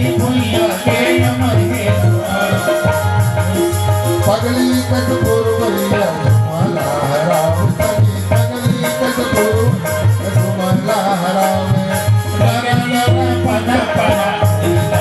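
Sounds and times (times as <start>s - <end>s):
hand drum: 0.0s - 15.0s
harmonium chords: 0.0s - 15.0s
person singing: 0.0s - 15.0s.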